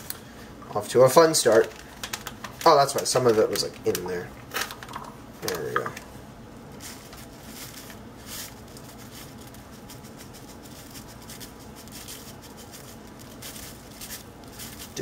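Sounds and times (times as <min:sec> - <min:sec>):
foil pouch crinkling: 0:01.0 - 0:06.1, 0:06.7 - 0:15.0.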